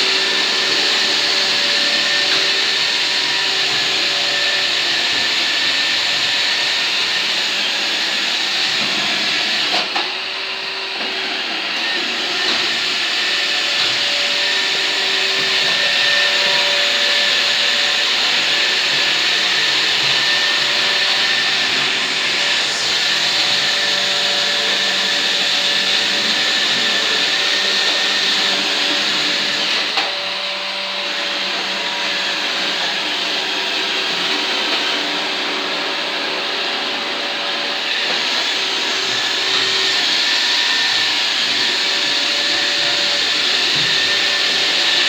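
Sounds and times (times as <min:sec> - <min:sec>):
robot vacuum whirring: 0:00.0 - 0:45.0.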